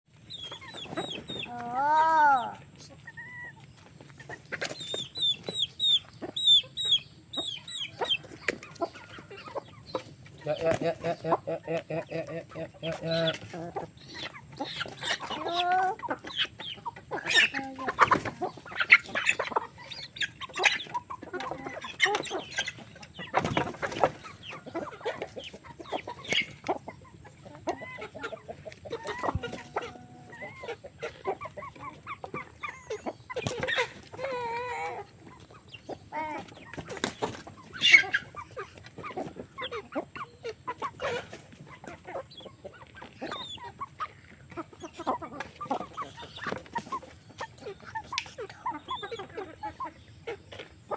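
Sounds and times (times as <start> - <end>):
chickens clucking: 0.1 - 50.9.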